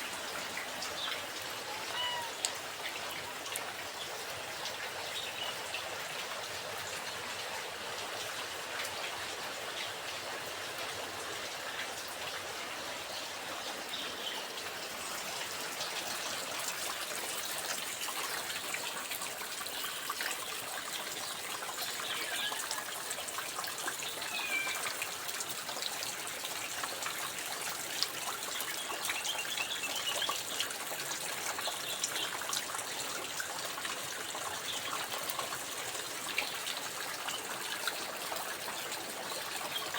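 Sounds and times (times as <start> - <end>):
rain pattering: 0.0 - 39.9
water trickling: 0.0 - 39.9.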